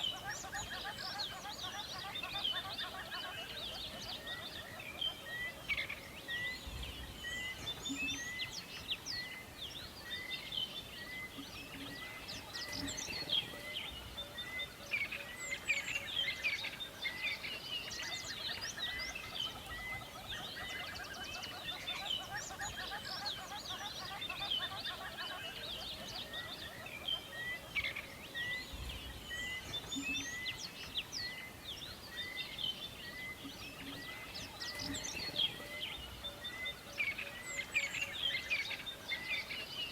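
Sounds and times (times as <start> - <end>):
many birds chirping and singing: 0.0 - 39.9
steady background hiss: 0.0 - 39.9.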